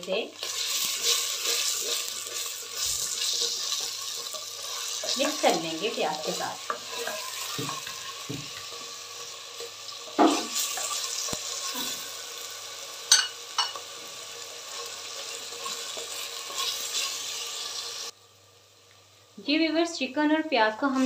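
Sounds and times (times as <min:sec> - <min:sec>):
mince and onions sizzling in oil: 0:00.0 - 0:21.0.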